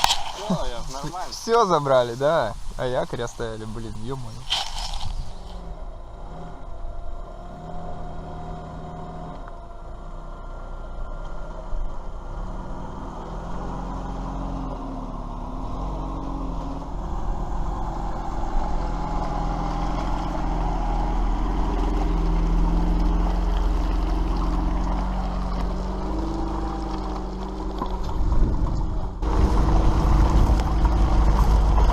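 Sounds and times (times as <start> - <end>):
engine running under load: 4.5 - 31.9.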